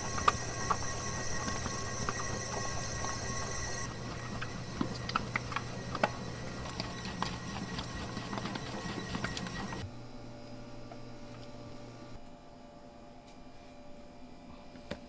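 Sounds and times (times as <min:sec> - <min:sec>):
dough mixer motor hum: 0:00.0 - 0:12.2.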